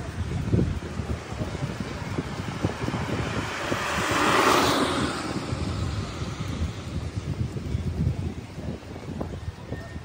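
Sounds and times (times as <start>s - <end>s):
car tyres hissing on wet road: 0.0s - 9.8s
wind buffeting microphone: 0.0s - 10.0s.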